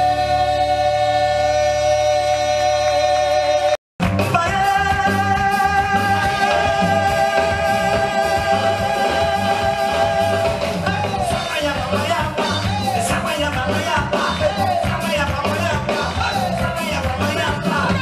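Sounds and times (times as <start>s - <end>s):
guitar: 0.0s - 18.0s
keyboard: 0.0s - 18.0s.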